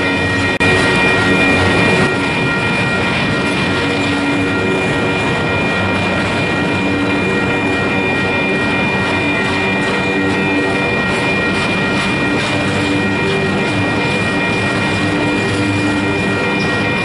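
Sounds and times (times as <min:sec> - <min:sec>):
thin high whine: 0:00.0 - 0:17.0
train wheels clattering on rail: 0:00.0 - 0:17.0.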